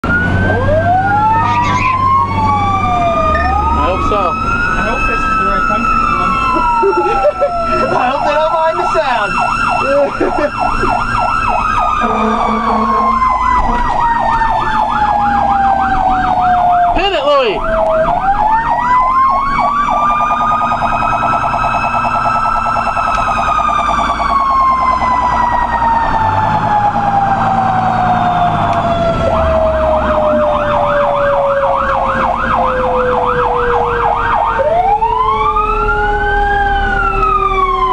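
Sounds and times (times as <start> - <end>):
electronic yelp siren: 0.0 - 37.9
mechanical siren wailing: 0.0 - 37.9
truck engine rumble: 0.0 - 37.9.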